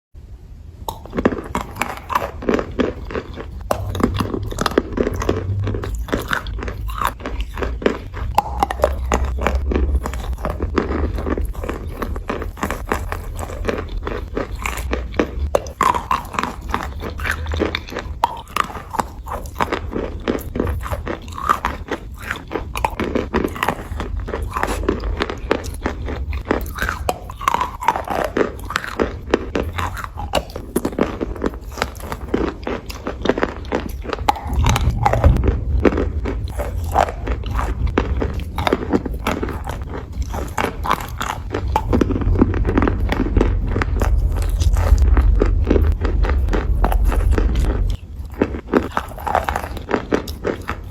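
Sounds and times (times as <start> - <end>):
chewing crunches: 0.8 - 50.9.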